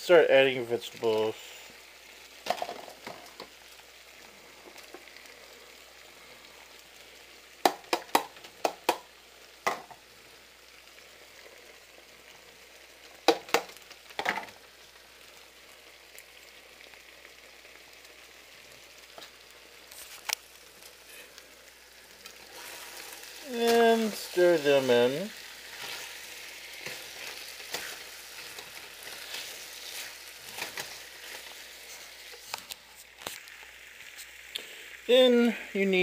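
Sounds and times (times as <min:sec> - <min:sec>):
chicken sizzling in a pan: 0:00.0 - 0:36.0.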